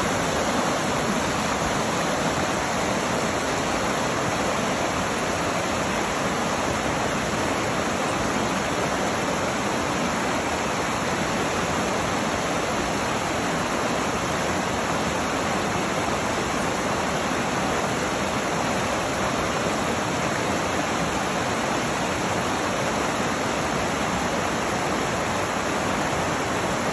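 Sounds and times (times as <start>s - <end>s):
creek rushing over boulders: 0.0s - 26.9s.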